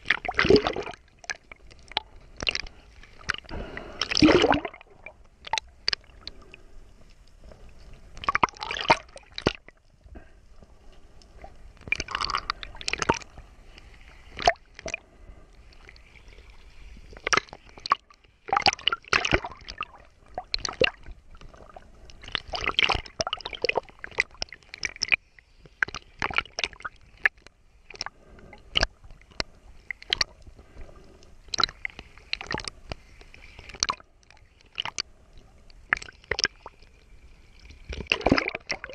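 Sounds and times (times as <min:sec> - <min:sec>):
sea water sloshing and splashing: 0:00.0 - 0:38.9.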